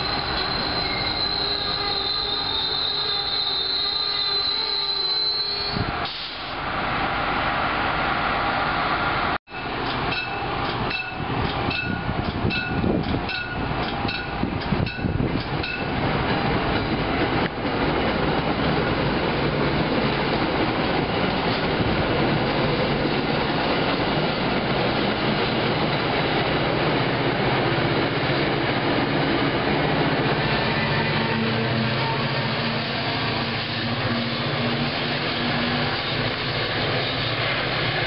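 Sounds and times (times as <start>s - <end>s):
train rolling over rails: 5.5s - 38.0s.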